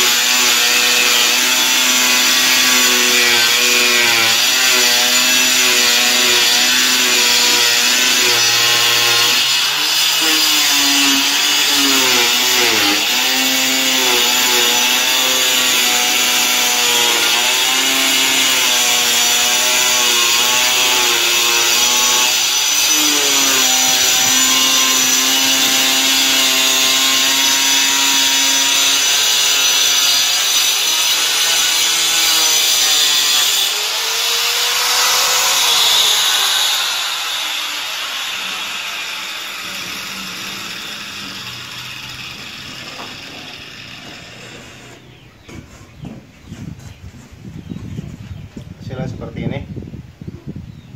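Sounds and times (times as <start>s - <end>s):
angle grinder cutting board: 0.0s - 46.6s.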